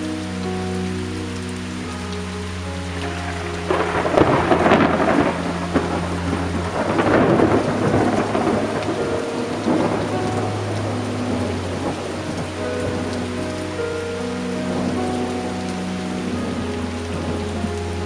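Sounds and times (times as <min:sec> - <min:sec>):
steady rainfall: 0:00.0 - 0:18.0
thunder rumbling: 0:02.6 - 0:18.0.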